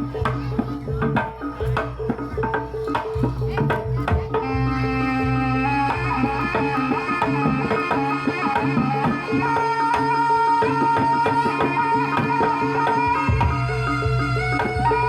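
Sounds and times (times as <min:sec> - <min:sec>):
sustained melody tones: 0:00.0 - 0:15.0.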